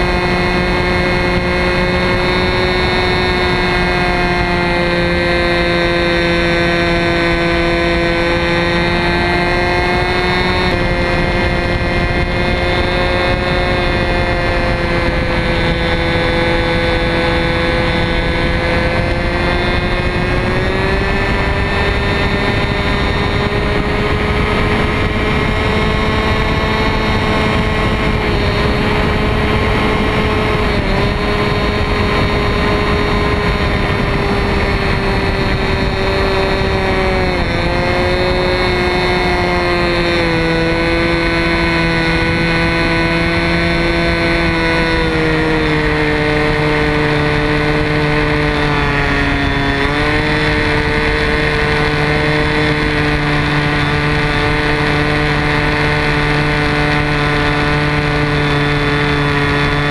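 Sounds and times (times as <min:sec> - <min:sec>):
model plane engine buzzing: 0:00.0 - 0:59.9.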